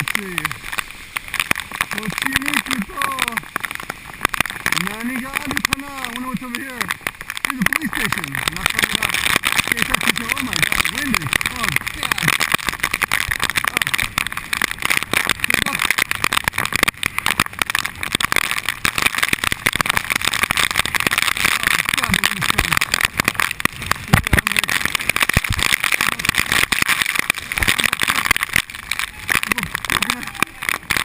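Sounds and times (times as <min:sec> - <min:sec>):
heavy rain on camera housing: 0:00.0 - 0:31.0.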